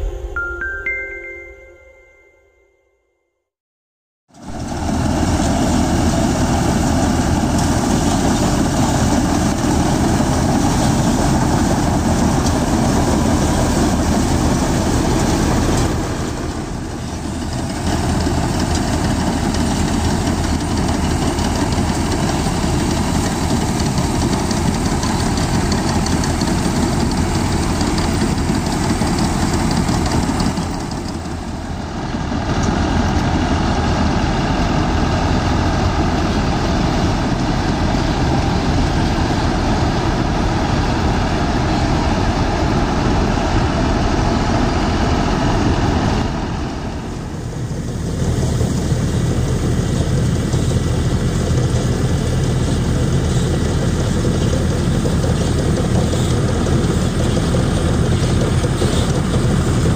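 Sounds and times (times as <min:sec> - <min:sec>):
combine harvester din: 0:04.3 - 0:59.9
tractor diesel engine running: 0:04.3 - 0:59.9.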